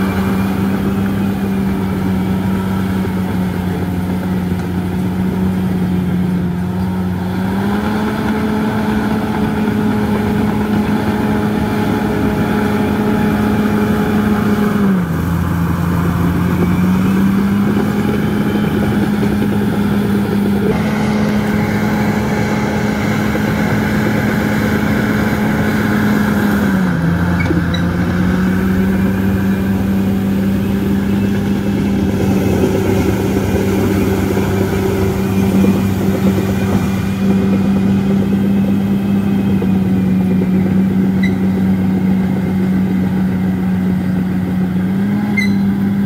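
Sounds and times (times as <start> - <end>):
bulldozer diesel engine under load: 0.0 - 46.0.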